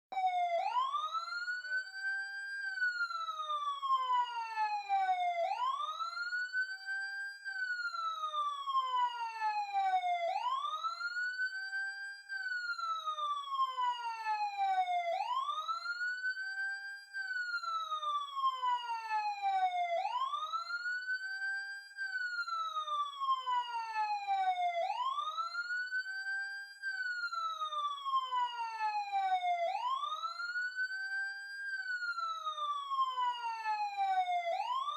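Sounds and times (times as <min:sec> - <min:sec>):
police siren wailing: 0:00.1 - 0:34.9.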